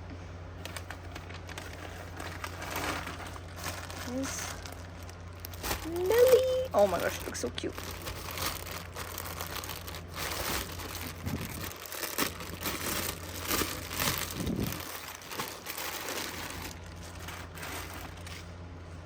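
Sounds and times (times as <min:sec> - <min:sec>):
packaging crinkling and rustling: 0:00.6 - 0:18.6.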